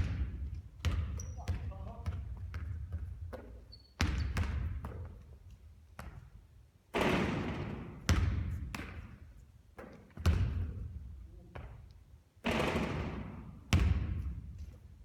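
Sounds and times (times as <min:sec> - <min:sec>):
basketball bouncing on hard court: 0:00.0 - 0:14.9.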